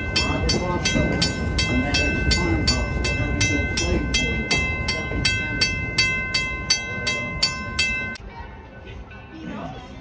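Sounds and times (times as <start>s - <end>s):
railroad crossing bell ringing: 0.0s - 8.2s
train cars rumbling on track: 0.0s - 8.2s.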